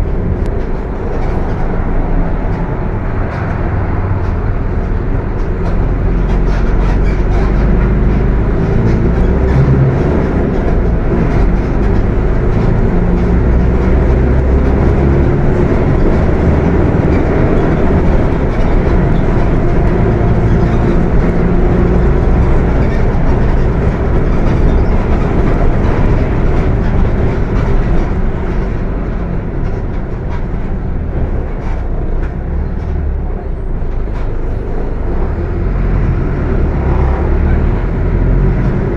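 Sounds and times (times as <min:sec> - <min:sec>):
diesel bus engine rumbling: 0:00.0 - 0:38.9.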